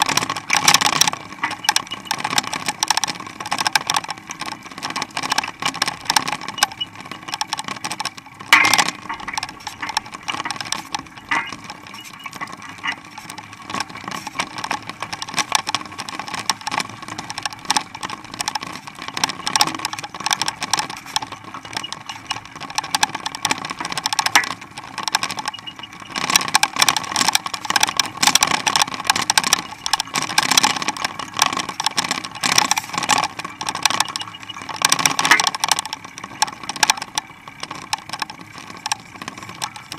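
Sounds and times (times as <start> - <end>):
bicycle rattling on paved road: 0.0 - 39.9.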